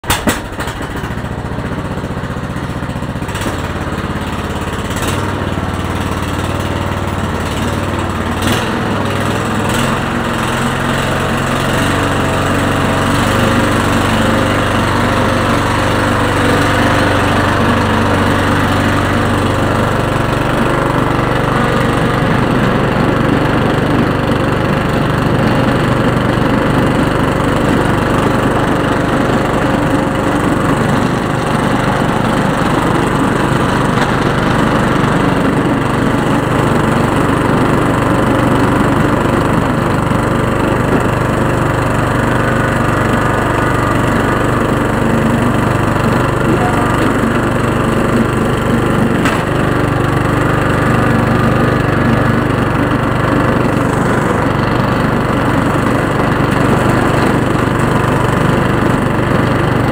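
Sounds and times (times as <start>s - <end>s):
lawn tractor engine running: 0.0s - 59.9s.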